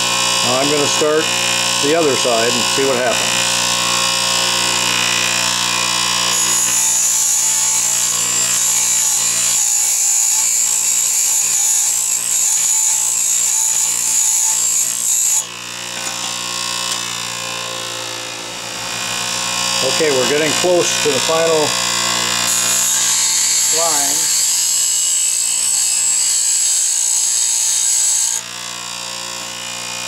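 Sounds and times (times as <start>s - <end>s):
grinding wheel hissing on steel: 0.0s - 17.8s, 19.4s - 28.4s
bench grinder motor hum: 0.0s - 30.0s.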